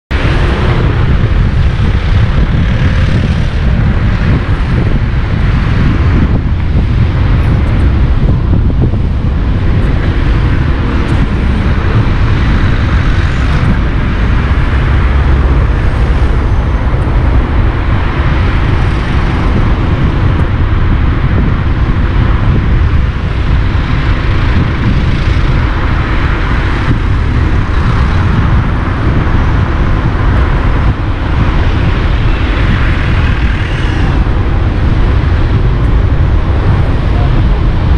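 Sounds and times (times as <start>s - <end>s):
car driving road noise: 0.1s - 37.9s.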